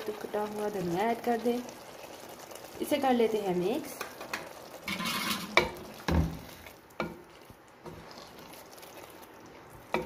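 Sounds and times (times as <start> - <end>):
simmering food sizzle: 0.0 - 10.0.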